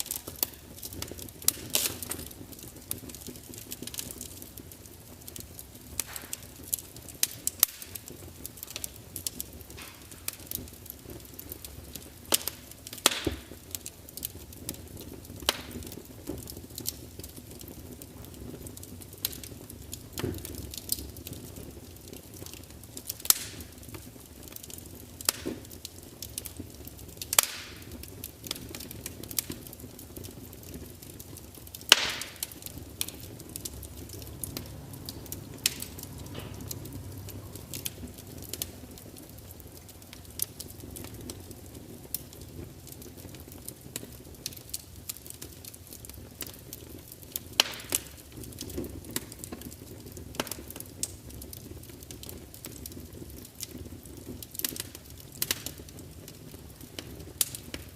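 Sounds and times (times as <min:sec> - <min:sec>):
fire pops and snaps: 0:00.0 - 0:57.9
log fire crackling: 0:00.0 - 0:57.9
low rumble of flames: 0:00.0 - 0:57.9.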